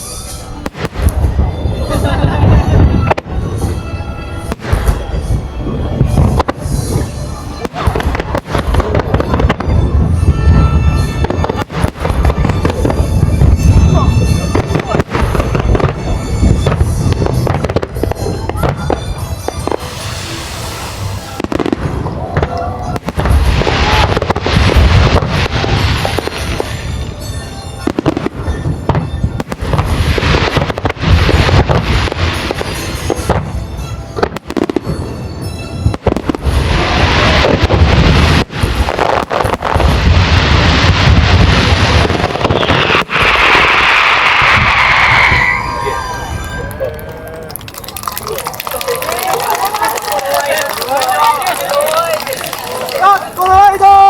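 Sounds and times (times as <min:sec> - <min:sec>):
fireworks hissing: 0:00.0 - 0:46.9
fireworks shells bursting: 0:00.0 - 0:53.9
fireworks crackling: 0:00.0 - 0:54.0.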